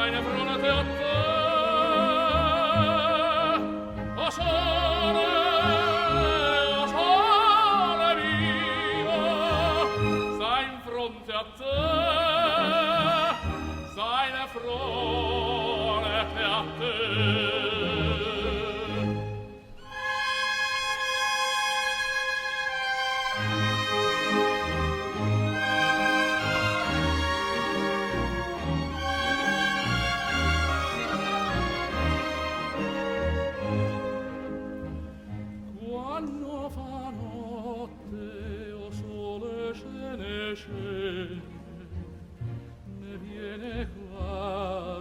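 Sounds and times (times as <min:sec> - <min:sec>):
operatic singing with vibrato: 0:00.0 - 0:45.0
orchestral accompaniment: 0:00.0 - 0:45.0.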